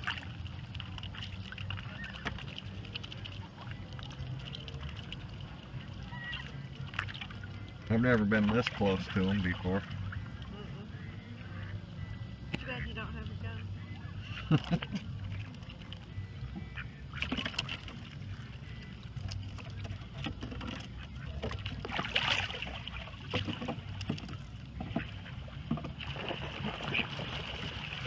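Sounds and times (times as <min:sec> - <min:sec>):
short splashes and taps: 0:00.0 - 0:10.5, 0:14.6 - 0:18.4, 0:19.0 - 0:28.0
water lapping against boat: 0:00.0 - 0:28.0.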